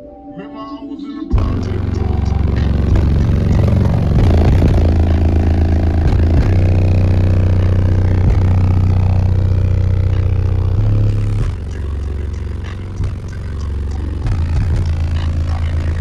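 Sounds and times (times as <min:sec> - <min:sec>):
loud bass-heavy music: 0:00.4 - 0:16.0.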